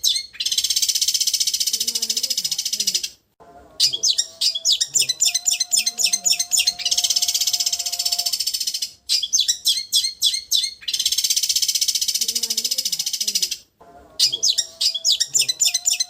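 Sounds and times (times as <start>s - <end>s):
bird chirping and trilling: 0.0s - 16.0s.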